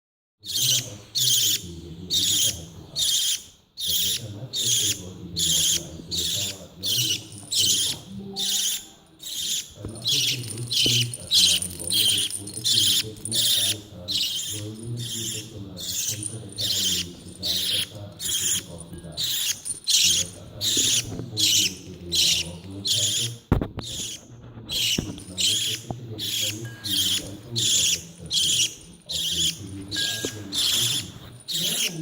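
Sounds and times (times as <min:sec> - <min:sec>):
budgerigar raspy calls: 0:00.5 - 0:32.0.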